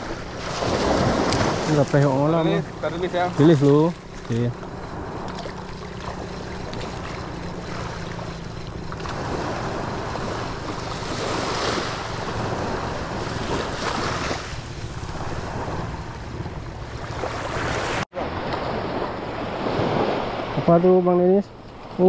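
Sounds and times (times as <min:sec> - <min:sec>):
wind buffeting microphone: 0:00.0 - 0:20.6
sea waves washing ashore: 0:00.0 - 0:22.0.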